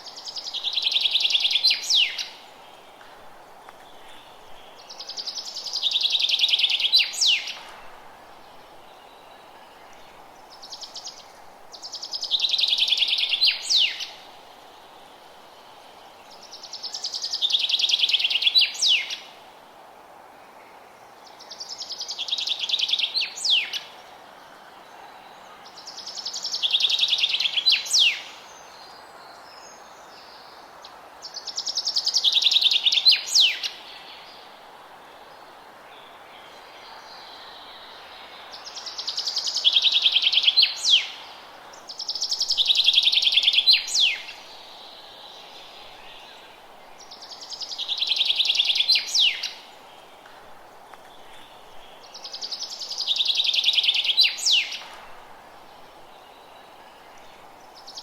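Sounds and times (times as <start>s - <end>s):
forest ambience hiss: 0.0s - 58.0s.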